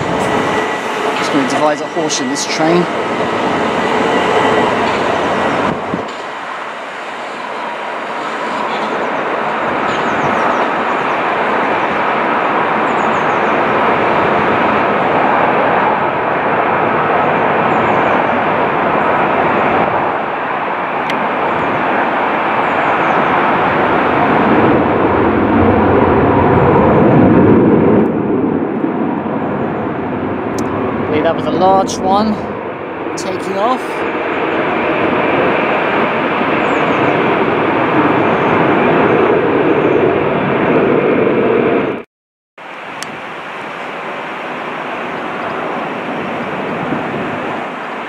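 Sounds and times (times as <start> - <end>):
jet airliner engines roaring: 0.0 - 42.0, 42.6 - 48.0.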